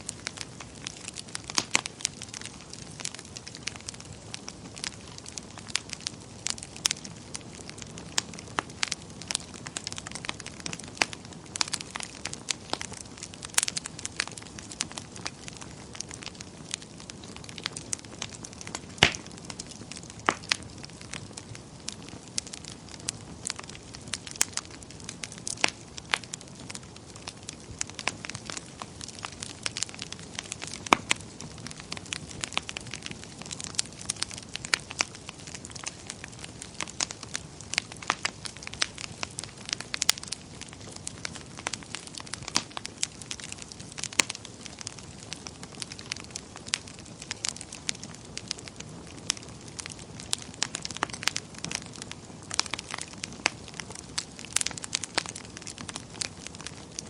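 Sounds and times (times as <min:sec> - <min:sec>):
fire crackling and popping: 0:00.0 - 0:57.0
rumble of flames: 0:00.0 - 0:57.0.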